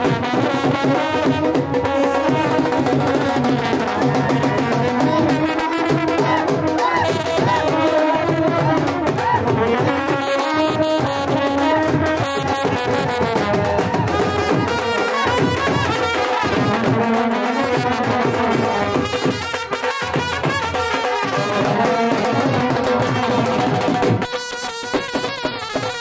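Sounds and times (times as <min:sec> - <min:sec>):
drum beating a steady rhythm: 0:00.0 - 0:26.0
trumpets playing a melody: 0:00.0 - 0:26.0.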